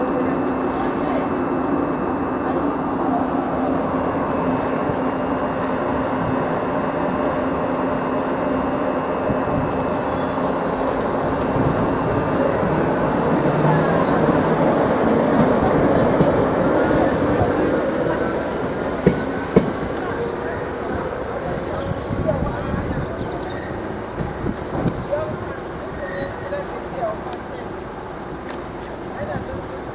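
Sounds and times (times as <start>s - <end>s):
train whine rising in pitch: 0.0s - 29.7s
train rail rumble: 0.0s - 29.9s.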